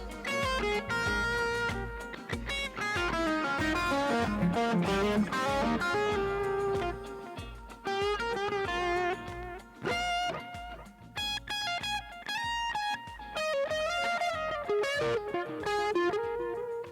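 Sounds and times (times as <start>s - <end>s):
electric guitar melody: 0.0s - 16.9s.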